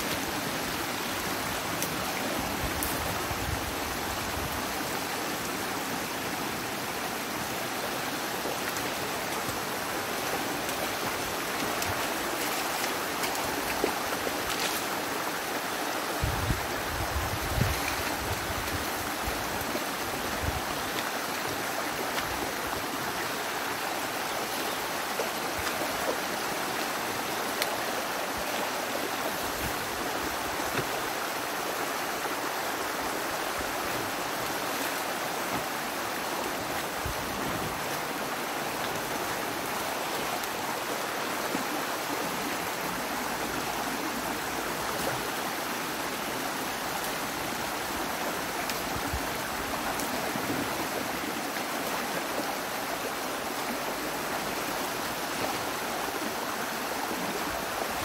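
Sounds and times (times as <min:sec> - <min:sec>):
stream water rushing and splashing: 0:00.0 - 0:58.0.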